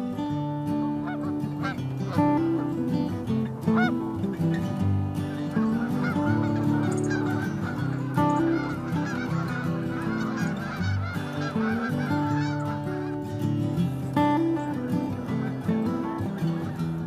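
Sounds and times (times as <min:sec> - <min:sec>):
geese honking: 0:00.3 - 0:17.0.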